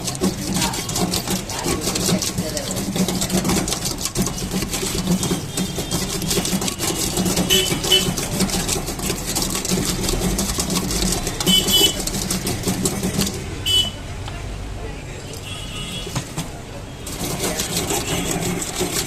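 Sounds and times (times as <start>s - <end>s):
fast scraping and clattering: 0.0s - 14.0s, 15.3s - 19.0s.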